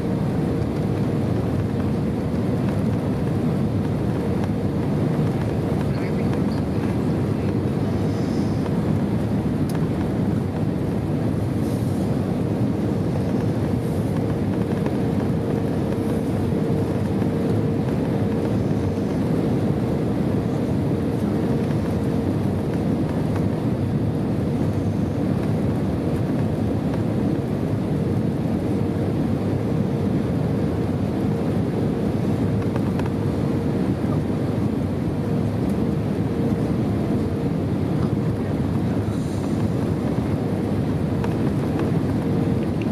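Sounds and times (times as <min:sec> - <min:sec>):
airplane cabin engine hum: 0:00.0 - 0:42.9.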